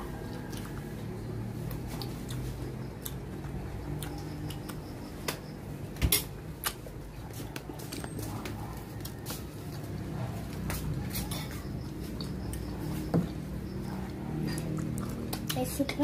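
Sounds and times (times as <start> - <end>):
chewing and handling food: 0.0 - 16.0.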